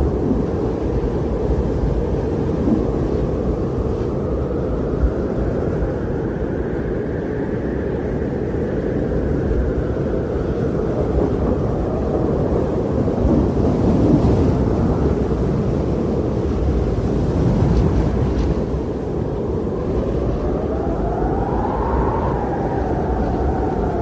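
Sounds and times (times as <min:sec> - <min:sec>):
wind rumbling: 0:00.0 - 0:24.0.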